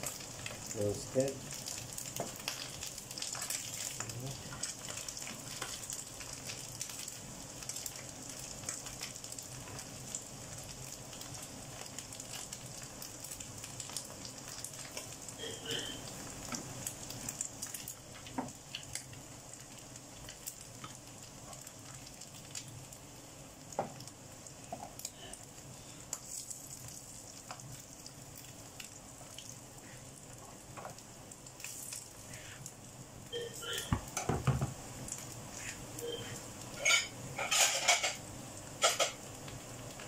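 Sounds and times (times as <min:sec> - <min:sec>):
fish sizzling in oil: 0:00.0 - 0:40.0.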